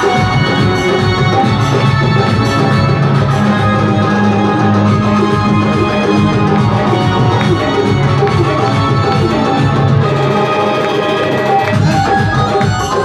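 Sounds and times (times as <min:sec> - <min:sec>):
devotional music: 0:00.0 - 0:13.0
drum rhythm: 0:00.0 - 0:13.0
organ-like keyboard notes: 0:00.0 - 0:13.0.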